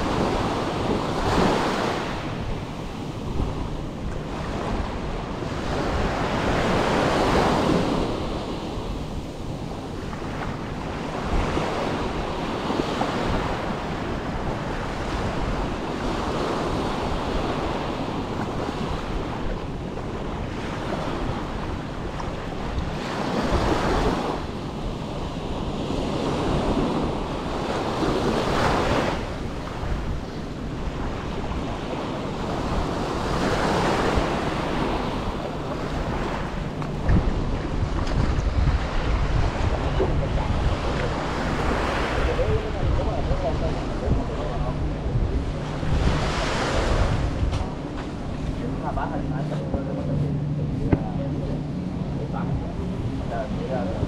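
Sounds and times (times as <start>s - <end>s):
small waves washing on sand: 0.0s - 54.0s
wind buffeting microphone: 0.0s - 54.0s.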